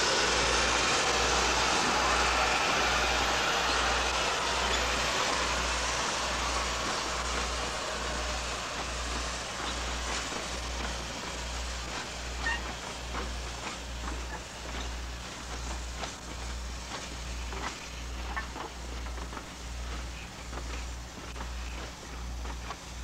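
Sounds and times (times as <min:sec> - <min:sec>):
train rushing over rails: 0:00.0 - 0:23.0.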